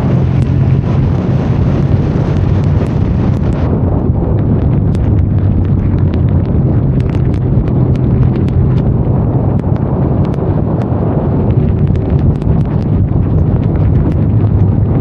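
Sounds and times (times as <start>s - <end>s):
rain ticks: 0.0s - 3.7s, 4.3s - 15.0s
motorcycle engine running: 0.0s - 15.0s
wind on microphone: 0.0s - 15.0s.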